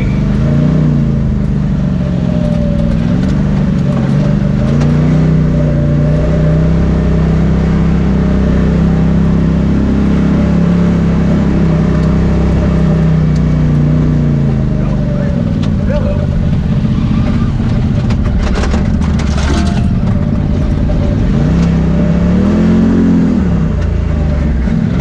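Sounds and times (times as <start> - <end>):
utility vehicle engine running: 0.0 - 25.0
wind: 0.0 - 25.0.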